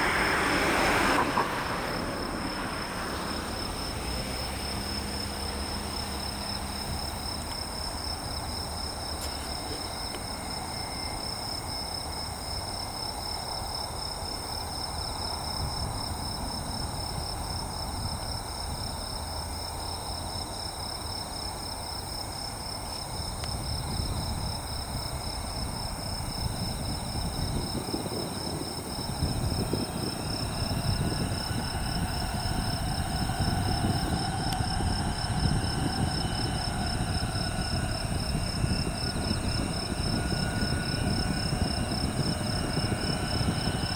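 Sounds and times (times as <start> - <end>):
insects chirping: 0.0 - 43.9
low background rumble: 0.0 - 43.9.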